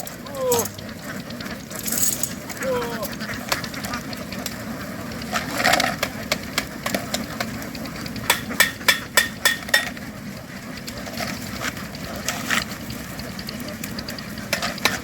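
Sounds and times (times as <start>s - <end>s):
low background noise: 0.0s - 15.0s
scattered knocks: 0.0s - 15.0s.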